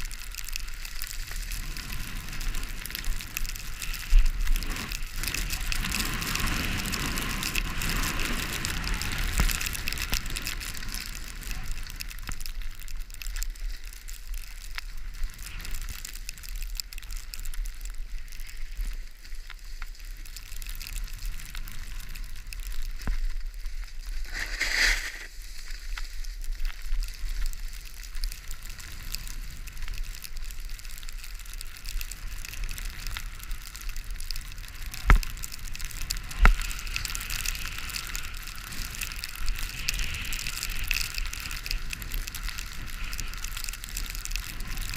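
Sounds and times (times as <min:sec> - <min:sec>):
skis scraping over snow and ice: 0:00.0 - 0:44.9.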